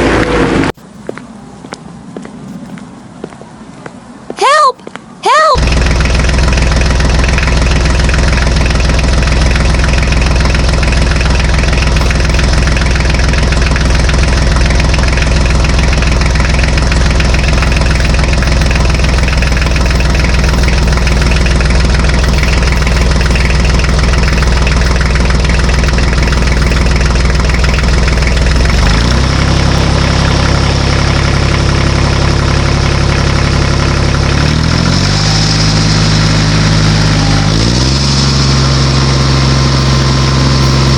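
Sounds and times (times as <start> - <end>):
engine running: 0.0 - 4.0, 5.6 - 40.9.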